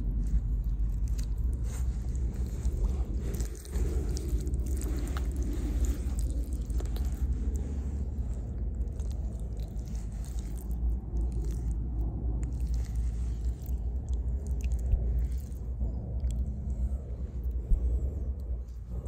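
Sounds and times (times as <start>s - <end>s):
wet mud squelching on cloth: 0.0s - 19.0s.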